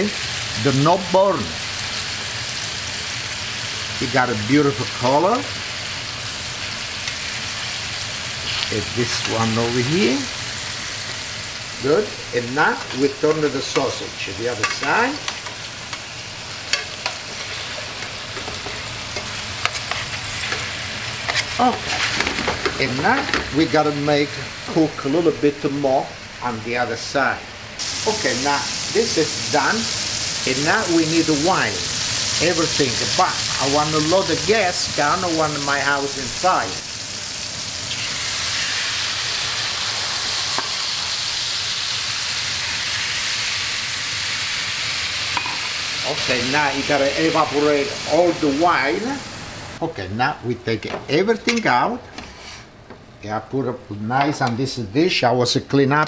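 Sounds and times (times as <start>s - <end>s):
meat sizzling in oil: 0.0s - 23.6s, 27.8s - 49.8s.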